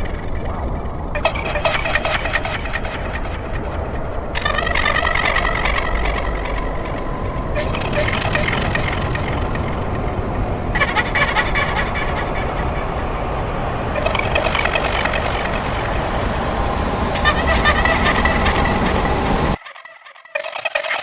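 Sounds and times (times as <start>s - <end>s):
harsh crackling experimental noise: 0.0s - 19.6s.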